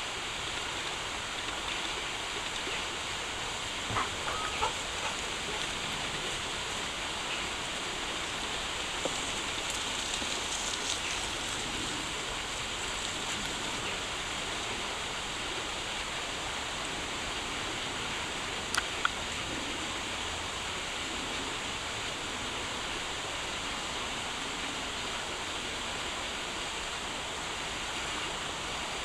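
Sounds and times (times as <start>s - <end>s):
shallow stream flowing: 0.0s - 29.0s.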